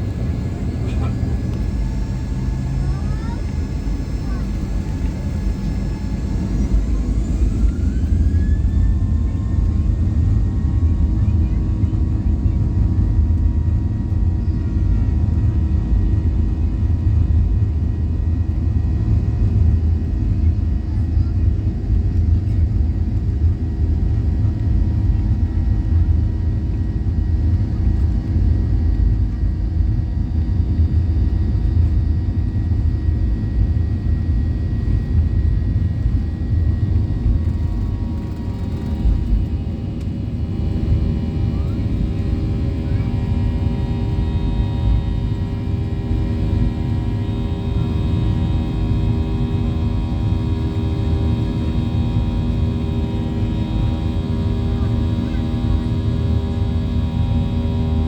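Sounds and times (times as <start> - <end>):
jet cabin rumble: 0.0 - 58.0
steady engine tones: 0.0 - 58.0.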